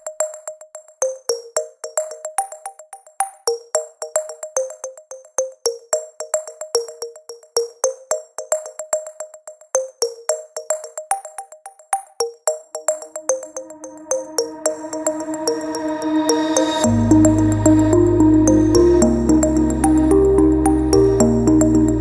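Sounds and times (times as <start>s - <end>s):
light electronic music: 0.0s - 22.0s.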